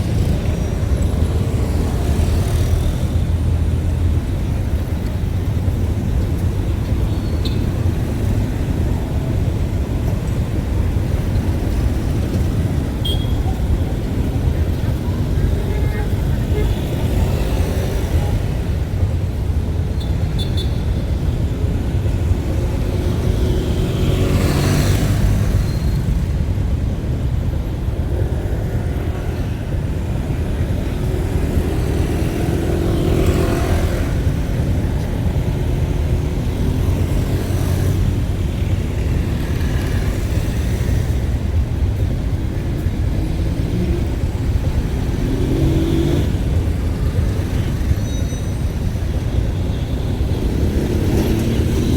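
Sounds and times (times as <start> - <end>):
engine and road rumble: 0.0 - 51.9
vehicles passing: 0.0 - 51.9.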